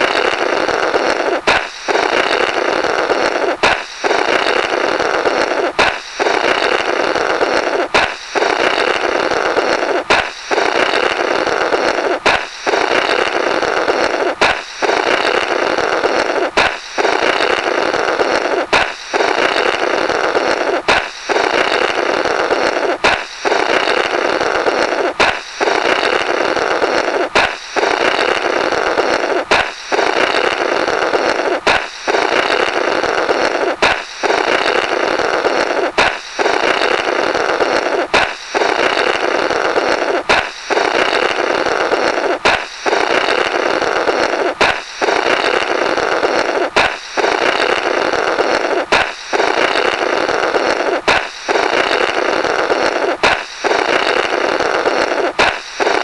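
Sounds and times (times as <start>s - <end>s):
balloon popping: 0.0s - 56.0s
raspy fluttering blowing: 0.0s - 56.0s.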